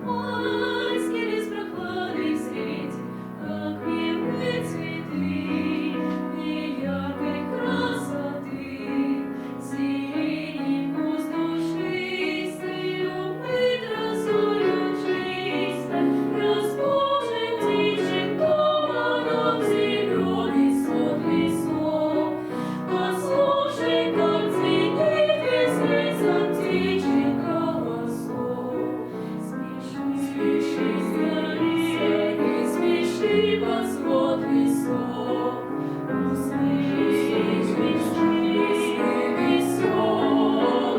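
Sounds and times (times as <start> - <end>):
children's choir singing: 0.0 - 40.9.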